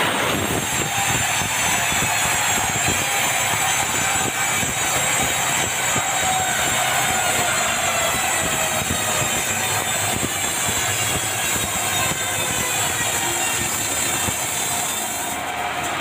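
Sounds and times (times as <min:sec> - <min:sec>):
band saw cutting through log: 0:00.0 - 0:16.0.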